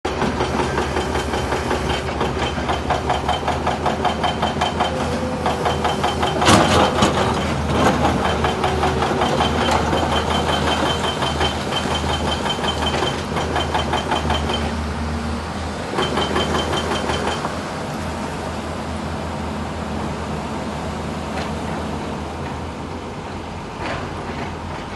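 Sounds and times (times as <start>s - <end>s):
excavator diesel engine running: 0.1s - 24.9s.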